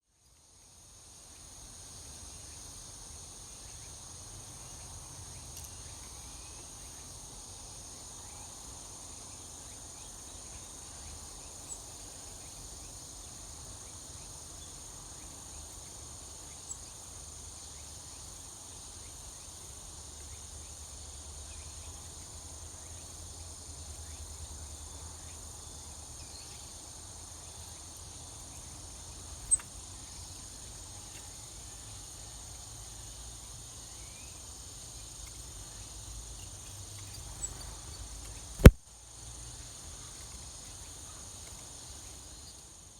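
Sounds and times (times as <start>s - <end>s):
insects trilling: 0.6s - 42.9s.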